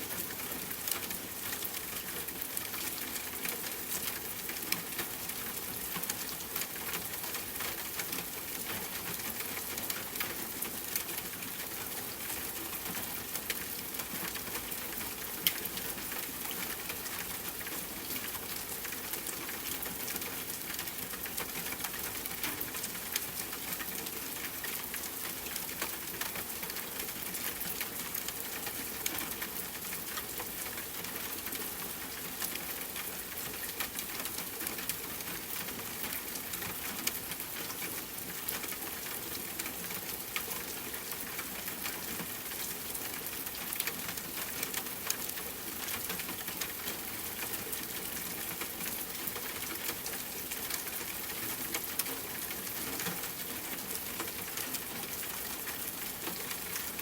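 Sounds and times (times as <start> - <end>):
rain pattering on a tent: 0.0 - 57.0.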